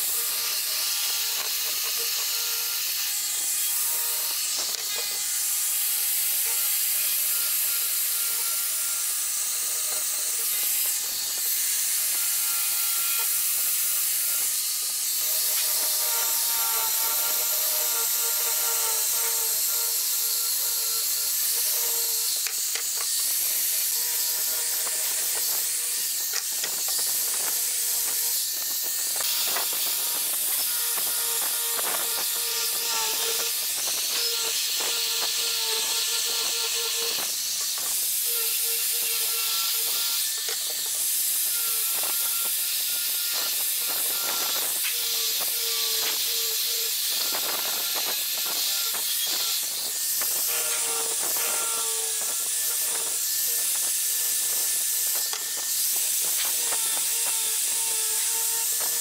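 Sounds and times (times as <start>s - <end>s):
angle grinder sanding wood: 0.0s - 59.0s.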